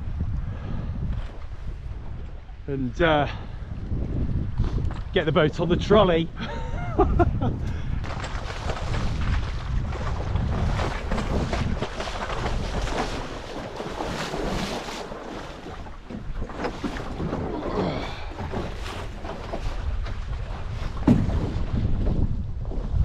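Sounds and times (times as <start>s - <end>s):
water splashing and sloshing: 0.0s - 23.0s
wind buffeting microphone: 0.0s - 23.0s.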